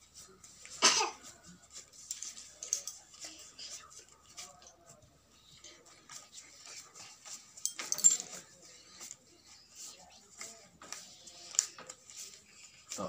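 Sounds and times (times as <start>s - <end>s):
kittens scratching and tapping: 0.1s - 13.0s.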